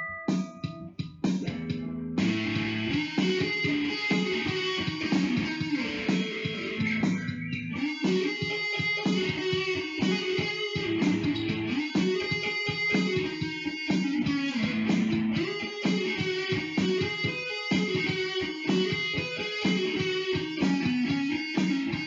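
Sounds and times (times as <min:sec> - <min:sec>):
electric guitar lead: 0:00.0 - 0:22.0.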